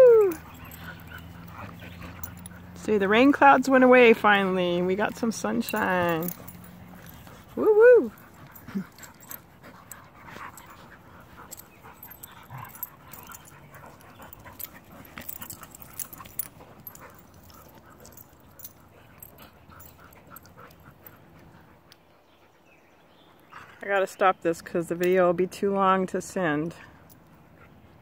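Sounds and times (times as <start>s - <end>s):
dogs panting: 0.0s - 25.4s, 26.7s - 28.0s.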